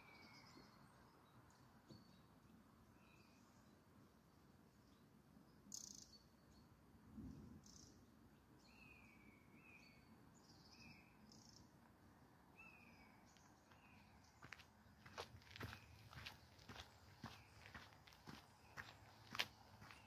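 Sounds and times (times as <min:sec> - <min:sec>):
faint bird chirps: 0:00.0 - 0:03.8, 0:04.4 - 0:11.8, 0:12.5 - 0:17.9.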